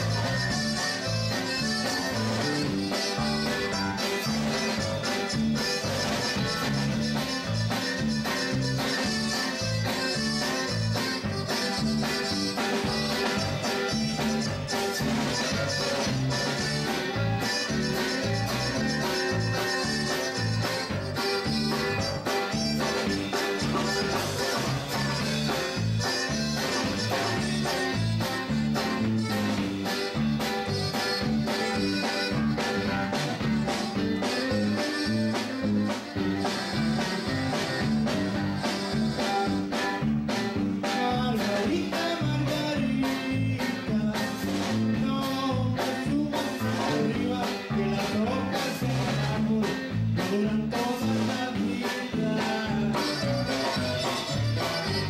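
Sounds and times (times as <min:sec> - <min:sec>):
conjunto band playing dance music: 0:00.0 - 0:55.0.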